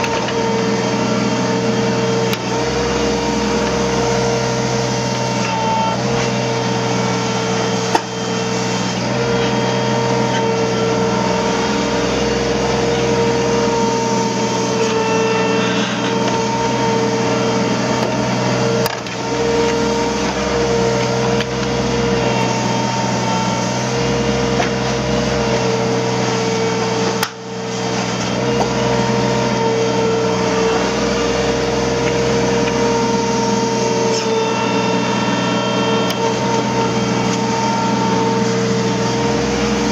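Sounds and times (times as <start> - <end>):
diesel engine running: 0.0 - 39.9
high hydraulic whine: 0.0 - 39.9.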